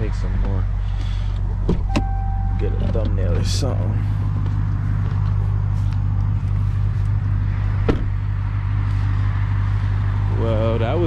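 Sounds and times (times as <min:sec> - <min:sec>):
truck engine droning at low speed: 0:00.0 - 0:11.0.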